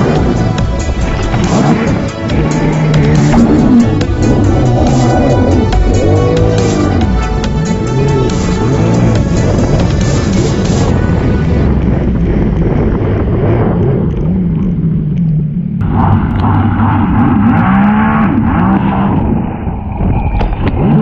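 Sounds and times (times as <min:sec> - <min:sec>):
jet ski engine revving: 0:00.0 - 0:19.4.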